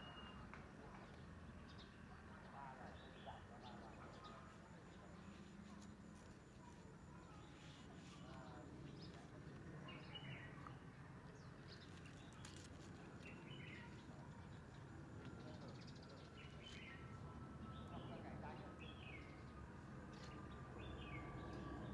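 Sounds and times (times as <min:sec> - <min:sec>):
faint outdoor background: 0:00.0 - 0:21.9.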